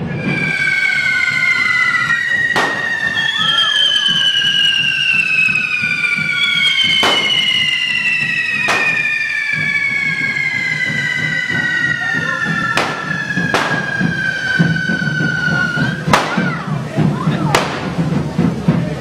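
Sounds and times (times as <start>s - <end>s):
firework fountain whistling screech: 0.0s - 18.3s
firecracker bangs: 0.0s - 18.8s.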